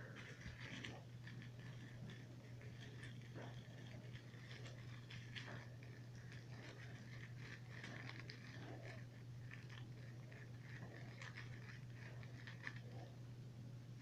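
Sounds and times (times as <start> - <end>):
kitten clawing and biting toy: 0.0 - 13.3.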